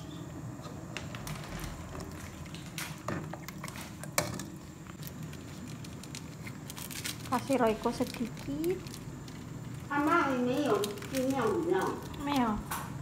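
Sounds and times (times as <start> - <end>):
broth bubbling in a pot: 1.0 - 13.0.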